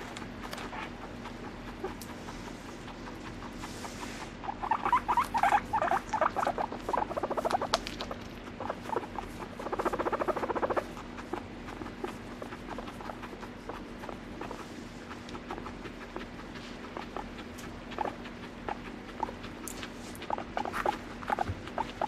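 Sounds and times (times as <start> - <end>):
guinea pig pulsed calls: 0.0 - 22.0.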